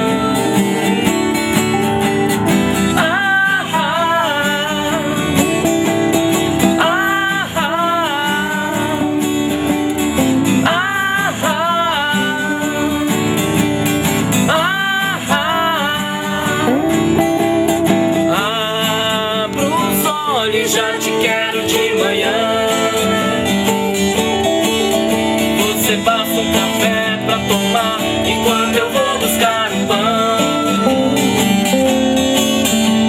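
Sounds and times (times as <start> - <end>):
acoustic guitar band music: 0.0 - 33.0.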